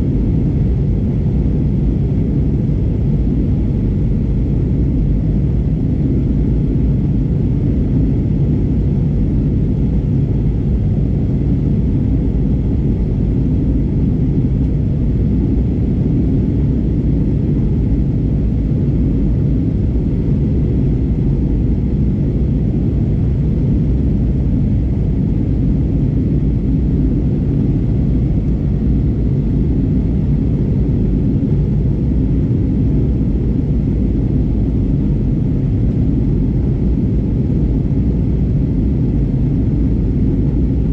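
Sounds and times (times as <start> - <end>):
airliner cabin engine drone: 0.0 - 40.9.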